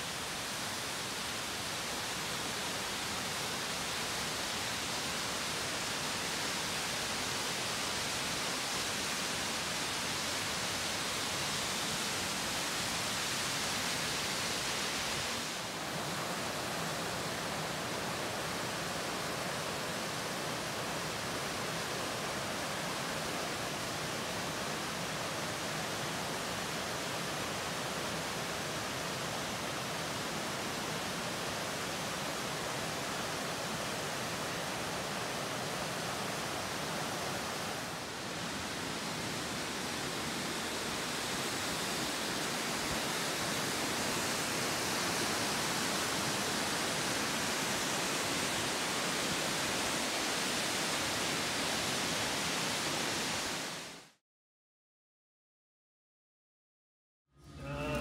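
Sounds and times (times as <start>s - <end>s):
fast-flowing water rushing: 0.0s - 54.2s.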